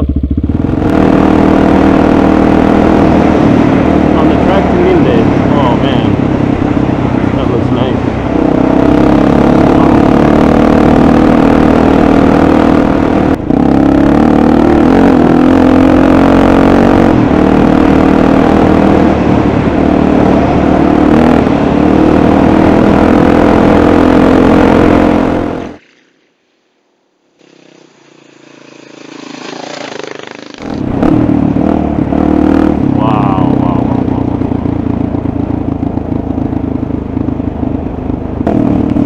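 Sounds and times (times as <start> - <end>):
dirt bike engine running: 0.0 - 26.1, 27.4 - 39.0.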